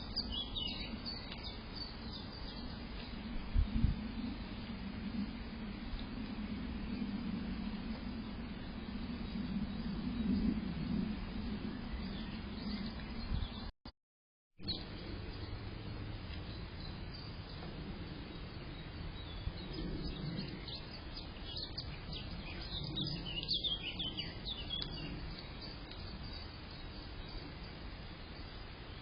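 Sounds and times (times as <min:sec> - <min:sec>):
small birds chirping: 0:00.0 - 0:04.7, 0:09.2 - 0:13.7, 0:14.6 - 0:29.0.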